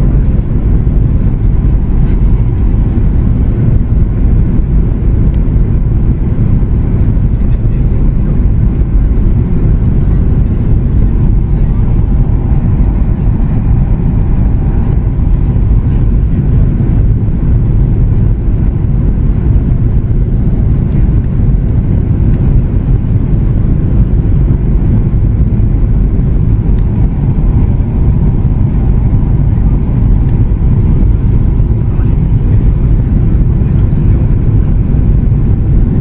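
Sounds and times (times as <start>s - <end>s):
airplane cabin engine roar: 0.0s - 36.0s.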